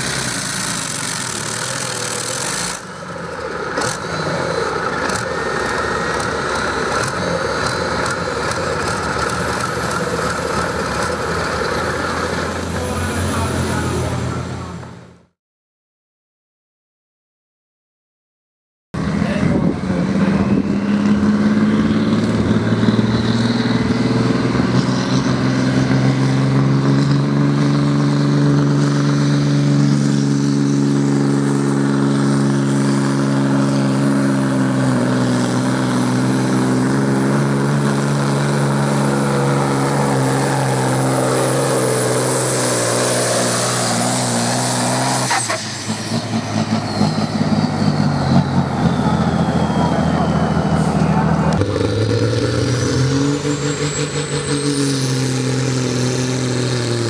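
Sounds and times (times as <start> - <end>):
tractor engine running flat out: 0.0 - 15.1, 19.0 - 57.0.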